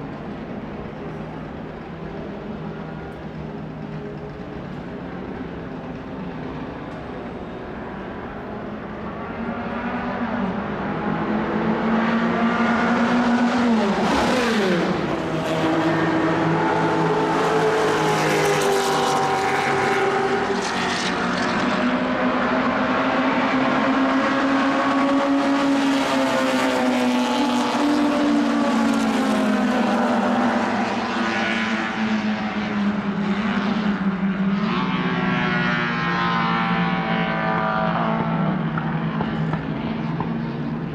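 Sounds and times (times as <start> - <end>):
racing car engines: 0.0 - 40.9.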